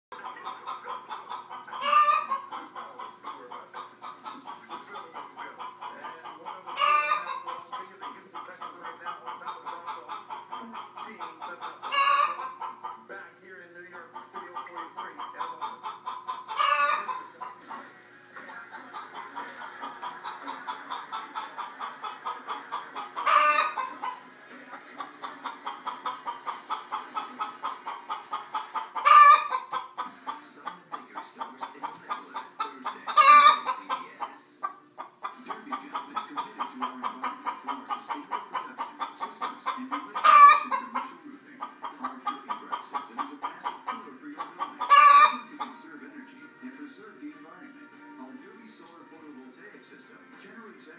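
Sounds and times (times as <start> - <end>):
hen squawking: 0.1 - 13.1, 14.0 - 45.8
hen clucking: 0.1 - 50.9.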